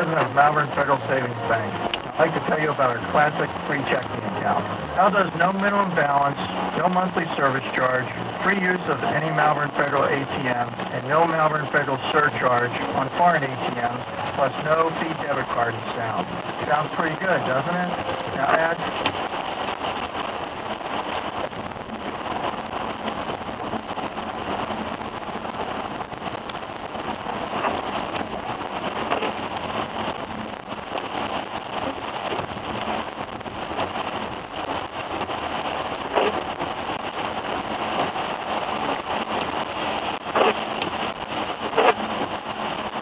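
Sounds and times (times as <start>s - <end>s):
rain falling on a vehicle: 0.0s - 43.0s.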